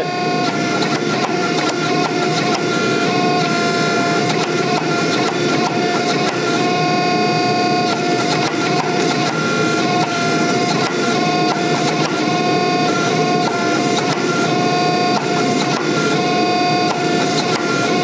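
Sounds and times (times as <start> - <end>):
hydraulic press pump whining: 0.0 - 18.0.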